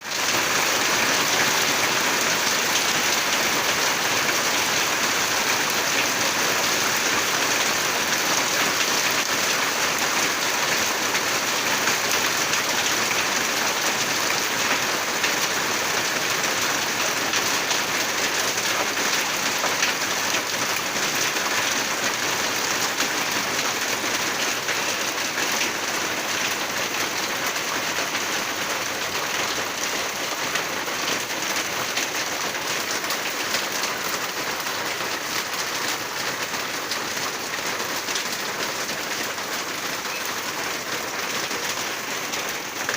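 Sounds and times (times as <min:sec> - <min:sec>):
steady rain pouring: 0:00.0 - 0:42.9.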